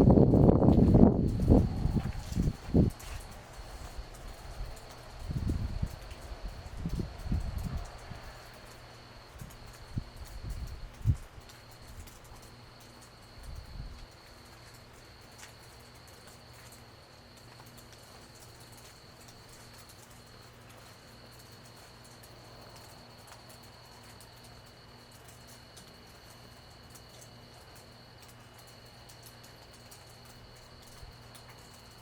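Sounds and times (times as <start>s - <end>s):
night insects trilling: 0.0s - 32.0s
faint ticks: 1.2s - 32.0s.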